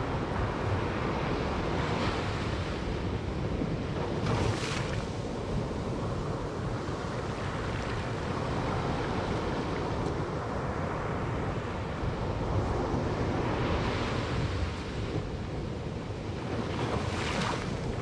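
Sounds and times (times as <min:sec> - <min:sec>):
surf washing over sand: 0:00.0 - 0:18.0.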